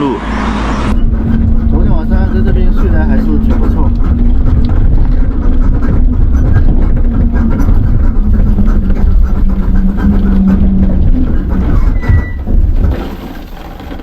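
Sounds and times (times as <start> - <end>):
road and wind noise: 0.0 - 14.0
steady motor hum: 0.6 - 12.9.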